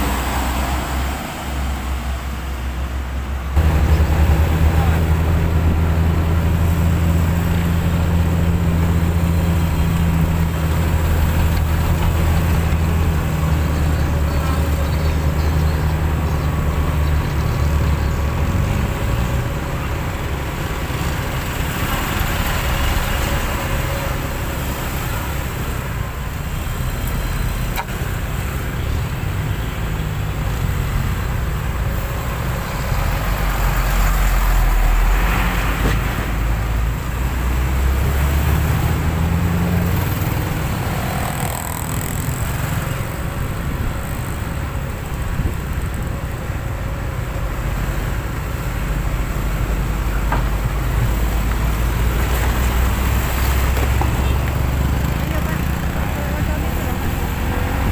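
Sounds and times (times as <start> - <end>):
road traffic: 0.0 - 57.9
truck diesel engine: 0.0 - 57.9.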